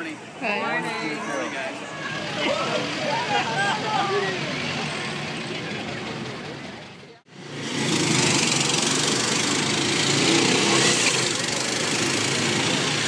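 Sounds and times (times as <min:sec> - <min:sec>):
small car engines running: 0:02.0 - 0:13.0.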